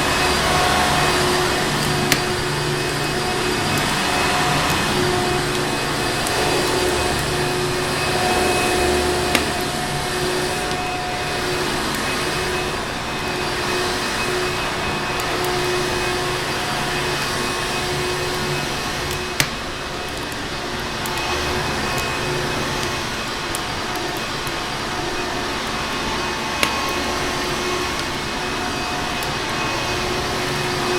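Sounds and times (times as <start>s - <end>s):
fireplace crackling: 0.0s - 30.9s
vacuum cleaner running: 0.0s - 30.9s.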